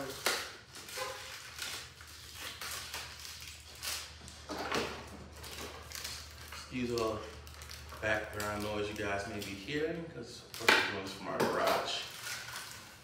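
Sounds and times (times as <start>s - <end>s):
cardboard pack crinkling: 0.0s - 4.5s, 5.2s - 9.8s, 11.6s - 13.0s.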